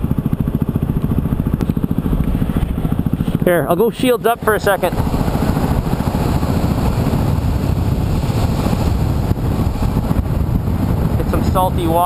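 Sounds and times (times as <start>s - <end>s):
motorcycle engine rumble: 0.0s - 12.0s
wind buffeting microphone: 0.0s - 12.0s.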